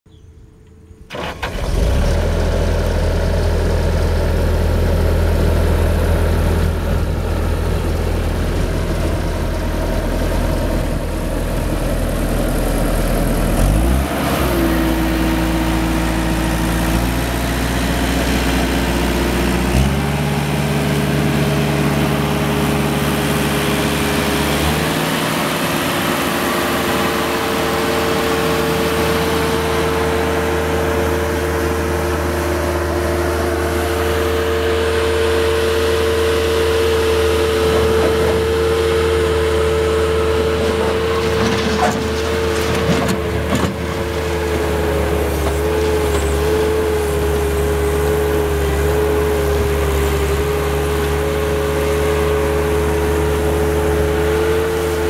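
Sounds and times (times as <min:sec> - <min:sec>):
diesel engine starting and running: 0:00.6 - 0:55.0.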